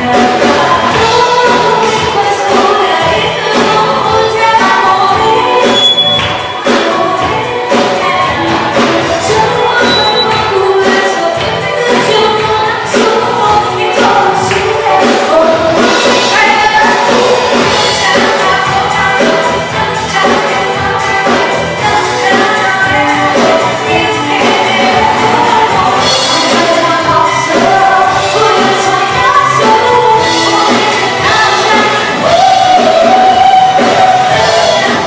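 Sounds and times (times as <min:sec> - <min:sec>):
drums: 0:00.0 - 0:35.0
electric bass: 0:00.0 - 0:35.0
electric guitar: 0:00.0 - 0:35.0
keyboard: 0:00.0 - 0:35.0
women singing: 0:00.0 - 0:35.0.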